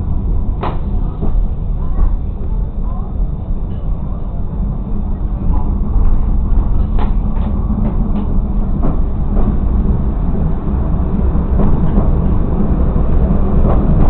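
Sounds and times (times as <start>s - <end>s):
railcar rumbling on track: 0.0s - 14.0s.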